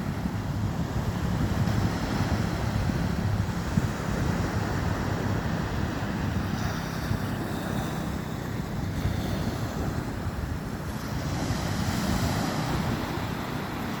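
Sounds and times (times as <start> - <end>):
ocean waves on shore: 0.0 - 14.0
wind buffeting microphone: 0.0 - 14.0.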